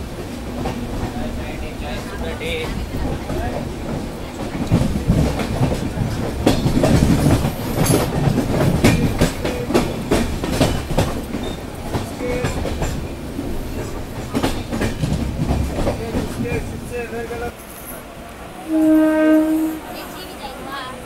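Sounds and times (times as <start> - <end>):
low train rumble: 0.0 - 21.0
train wheels clattering over rail joints: 0.1 - 17.9.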